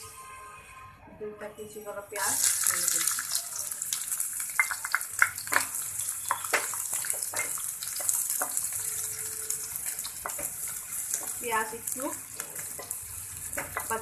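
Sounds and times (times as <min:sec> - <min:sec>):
onions sizzling in oil: 0:02.2 - 0:14.0.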